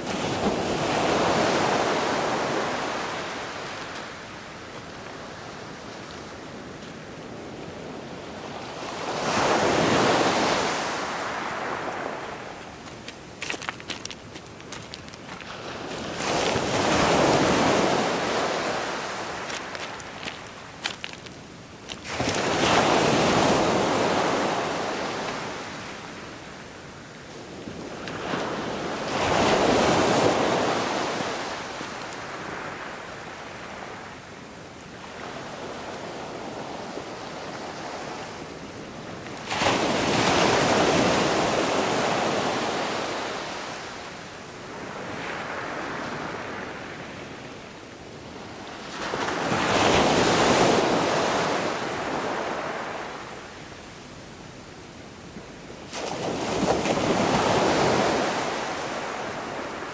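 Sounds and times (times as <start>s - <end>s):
waves breaking and washing back: 0.0s - 54.4s, 55.4s - 59.9s.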